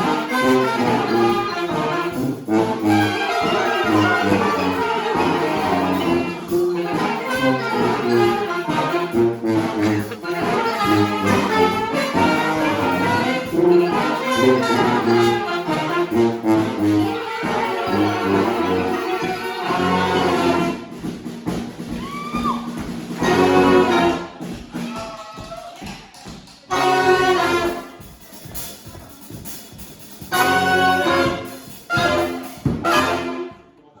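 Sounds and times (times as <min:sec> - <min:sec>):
brass band playing: 0:00.0 - 0:25.2, 0:26.7 - 0:33.7.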